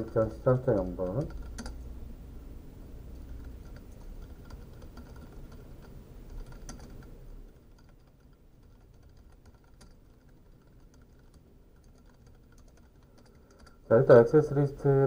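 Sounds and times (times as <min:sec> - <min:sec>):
keyboard typing: 0:00.0 - 0:01.9, 0:03.0 - 0:13.9.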